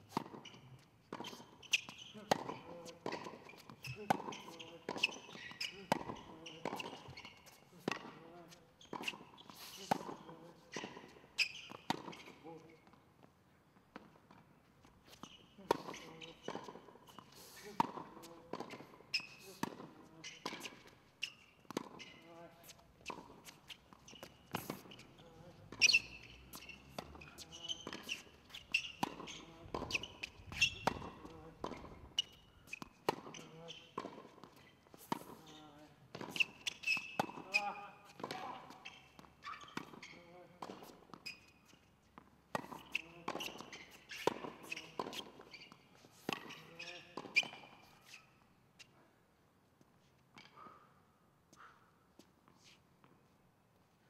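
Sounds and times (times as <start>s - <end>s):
sneakers squeaking on court: 0.0s - 13.0s, 14.0s - 48.9s
tennis ball bounces: 0.1s - 13.0s, 13.8s - 48.2s.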